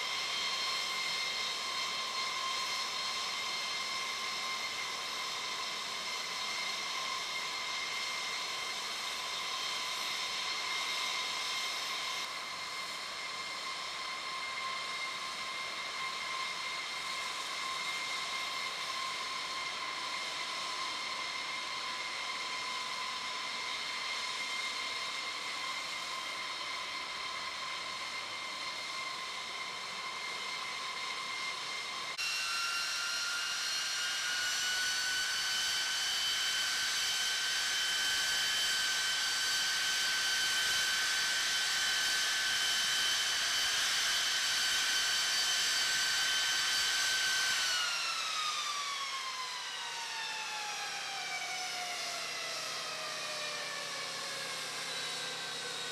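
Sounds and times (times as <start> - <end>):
jet turbines whining: 0.0 - 55.9.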